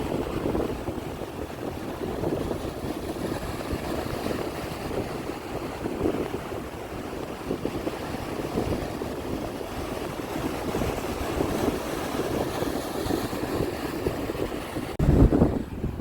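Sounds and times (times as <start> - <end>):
sea waves washing: 0.0 - 16.0
wind rumble on microphone: 0.0 - 16.0.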